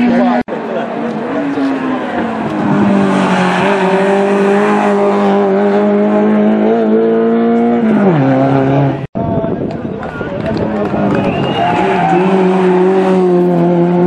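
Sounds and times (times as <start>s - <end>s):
rally car engine revving high: 0.0s - 9.1s, 10.6s - 14.0s.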